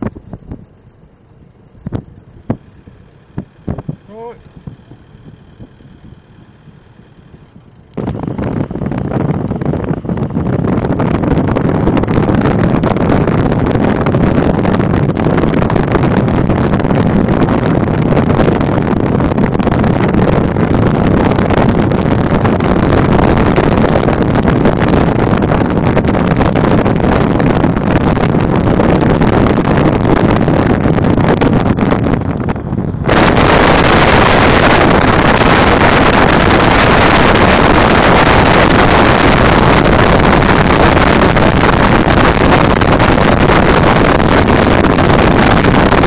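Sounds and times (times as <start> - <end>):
car engine and tyre noise: 0.0 - 46.0
wind rushing over microphone: 0.0 - 46.0.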